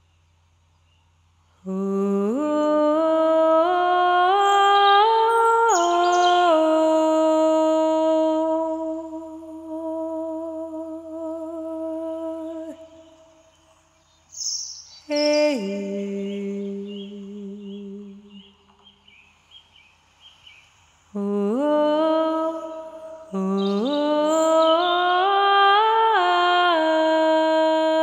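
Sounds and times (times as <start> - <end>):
person singing wordless melody: 1.6 - 13.3, 14.4 - 18.7, 21.1 - 28.0.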